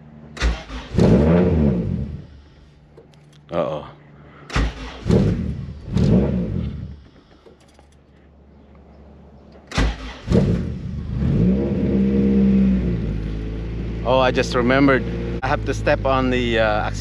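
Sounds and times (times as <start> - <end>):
car engine idling: 0.0 - 17.0
car engine cranking: 0.2 - 3.5, 4.4 - 8.2, 9.4 - 17.0.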